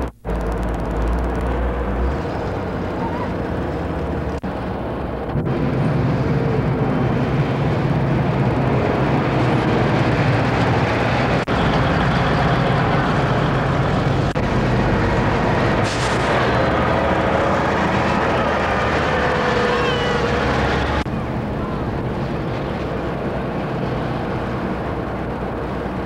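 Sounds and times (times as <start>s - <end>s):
buses driving past: 0.0s - 26.0s.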